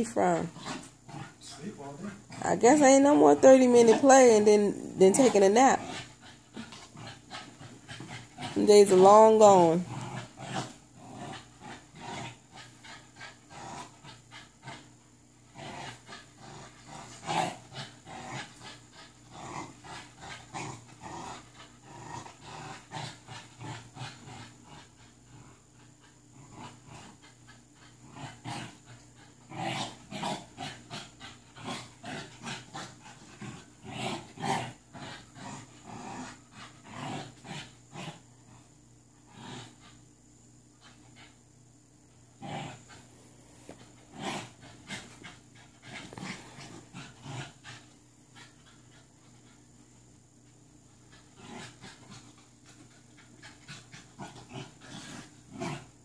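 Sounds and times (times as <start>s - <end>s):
puppy growling: 0.0s - 40.0s, 42.3s - 49.6s, 50.9s - 56.0s.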